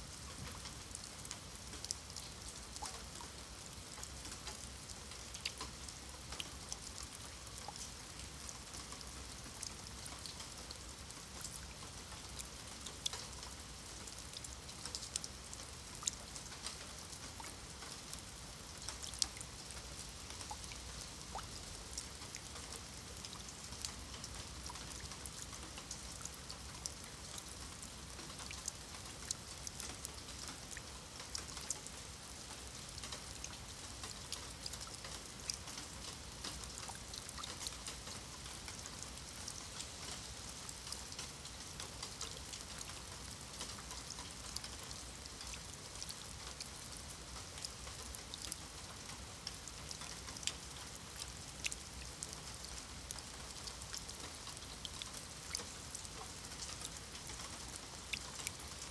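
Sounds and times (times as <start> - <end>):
rain pattering on stone paving: 0.0 - 58.9.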